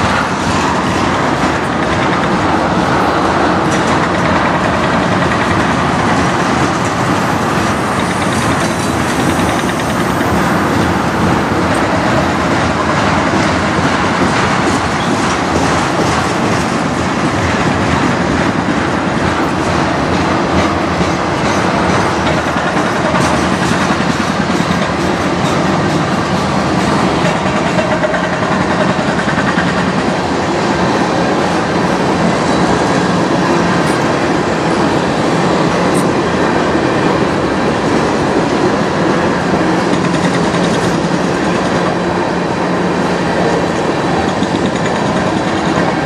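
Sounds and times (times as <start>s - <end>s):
wheels clicking over rail joints: 0.0s - 31.3s, 37.0s - 42.1s, 43.4s - 46.0s
train wheels rumbling on rail: 0.0s - 46.0s.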